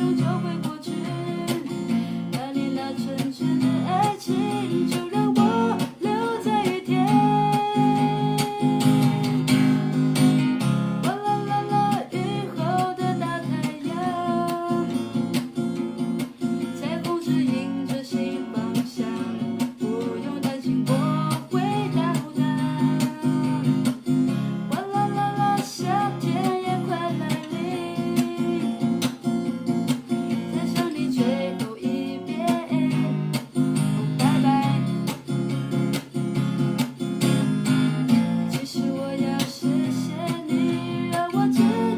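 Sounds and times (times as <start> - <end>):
person singing: 0.0 - 9.8, 11.0 - 15.5, 16.6 - 24.0, 24.7 - 29.2, 30.4 - 35.2, 38.2 - 41.9
strummed acoustic guitar: 0.0 - 41.9.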